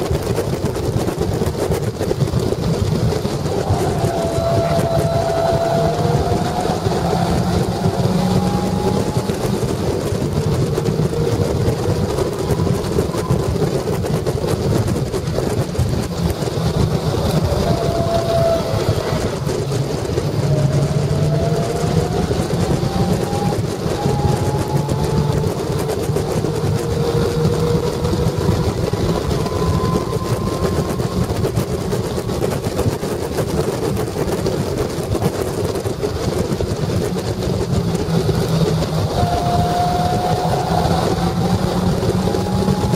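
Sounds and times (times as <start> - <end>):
wind and road noise: 0.0 - 42.9
race car engine revving: 1.9 - 42.9.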